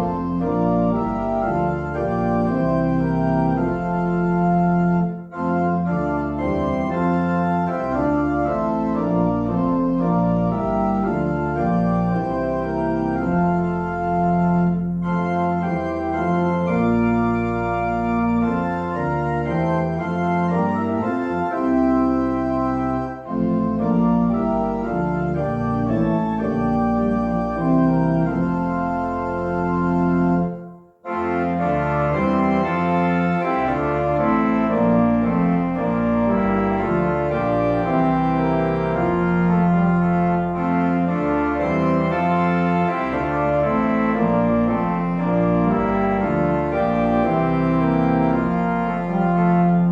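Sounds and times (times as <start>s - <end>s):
church organ chords: 0.0s - 49.9s.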